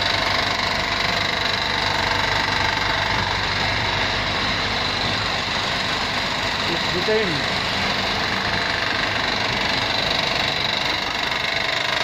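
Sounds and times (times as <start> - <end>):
car engine idling with knock: 0.0 - 12.0.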